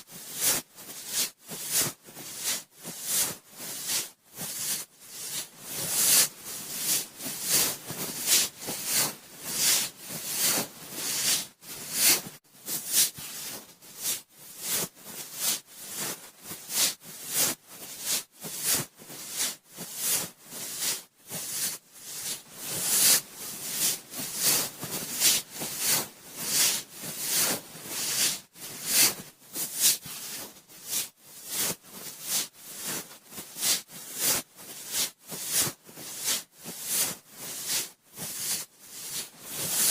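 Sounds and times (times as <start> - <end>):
cotton swab rubbing on microphone: 0.0 - 39.9.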